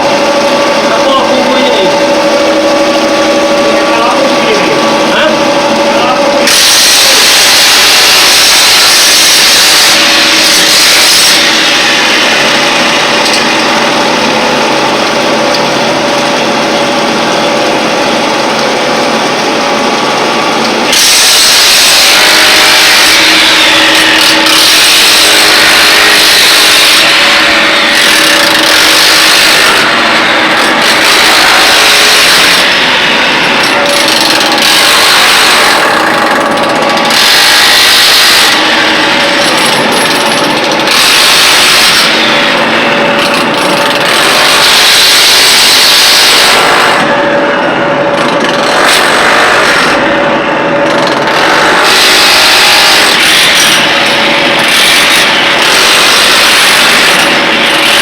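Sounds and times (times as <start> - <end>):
electric power tool running: 0.0 - 58.0.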